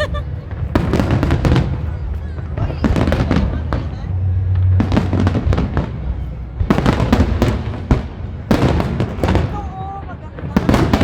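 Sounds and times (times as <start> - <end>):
low rumble: 0.0 - 9.2
firecrackers crackling bangs: 0.0 - 11.0.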